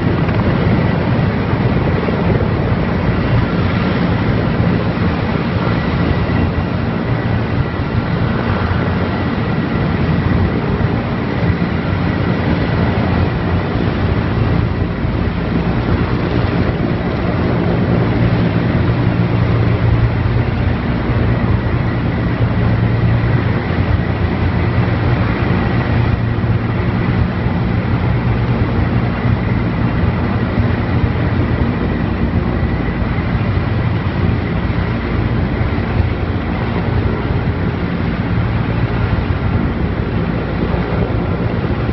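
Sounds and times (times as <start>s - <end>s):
faint steady whine: 0.0s - 41.9s
helicopter rotor and turbines droning: 0.0s - 41.9s.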